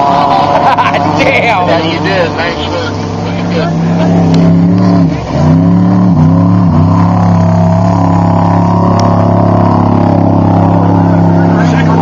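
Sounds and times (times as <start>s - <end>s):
race vehicle engine revving: 0.0s - 12.0s.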